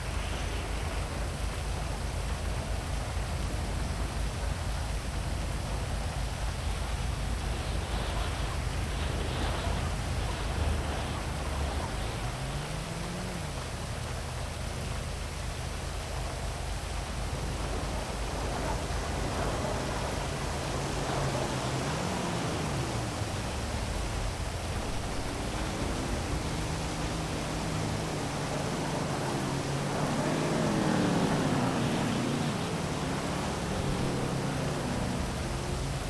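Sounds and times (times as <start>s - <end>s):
city traffic hum: 0.0s - 36.0s
heavy rain hissing: 0.0s - 36.0s
vehicles passing by: 0.0s - 36.0s.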